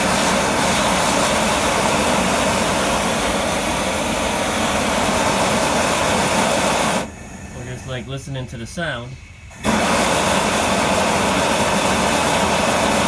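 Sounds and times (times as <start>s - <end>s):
gas burner flame rushing: 0.0s - 13.0s.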